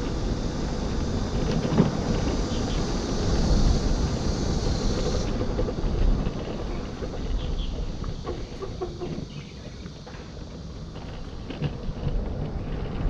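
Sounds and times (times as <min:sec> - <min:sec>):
high hiss: 0:00.0 - 0:10.9
road noise: 0:00.0 - 0:13.0
wind rushing over microphone: 0:00.0 - 0:13.0.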